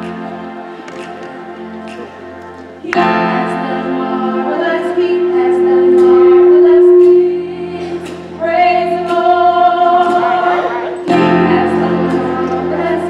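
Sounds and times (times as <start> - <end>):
choir singing held chords: 0.0 - 13.0.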